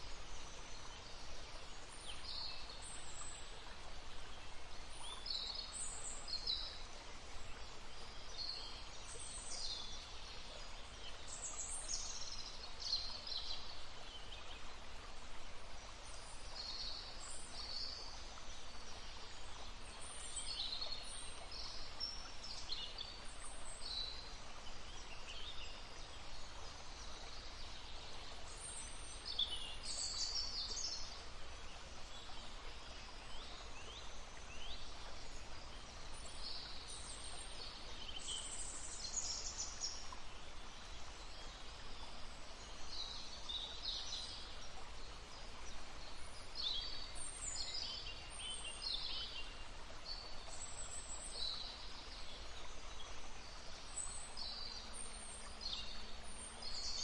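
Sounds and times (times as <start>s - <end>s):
babbling stream: 0.0s - 57.0s.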